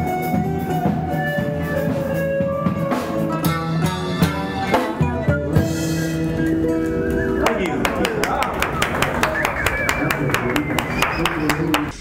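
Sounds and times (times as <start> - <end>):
held melodic notes: 0.0 - 11.9
drum kit: 0.0 - 12.0.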